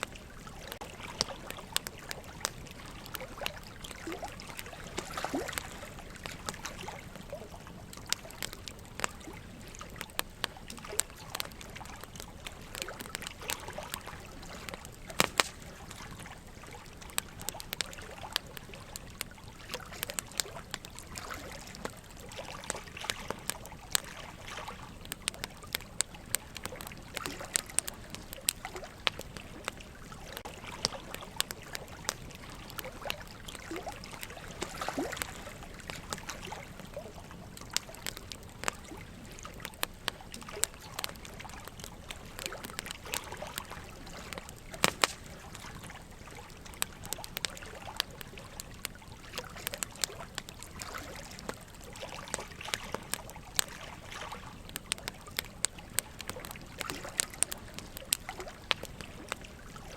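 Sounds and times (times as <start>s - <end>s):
water trickling: 0.0s - 59.9s
wood fire crackling: 0.0s - 59.9s.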